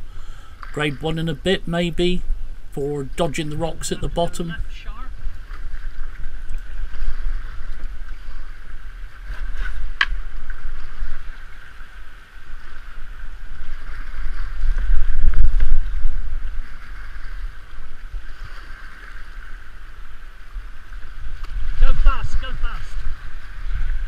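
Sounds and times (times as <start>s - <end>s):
wind buffeting microphone: 0.7s - 24.0s.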